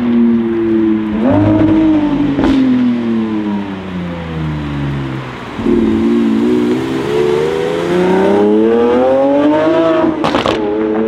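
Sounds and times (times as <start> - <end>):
car engine accelerating hard: 1.0 - 11.0.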